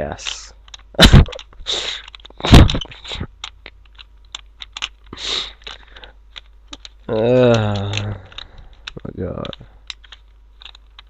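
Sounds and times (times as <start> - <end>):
plastic cube clicking and scraping: 0.2 - 11.0.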